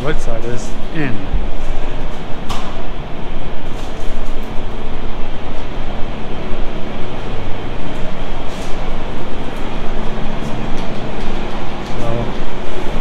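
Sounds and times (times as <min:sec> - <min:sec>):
low hum: 0:00.0 - 0:13.0
machine rumble: 0:00.0 - 0:13.0.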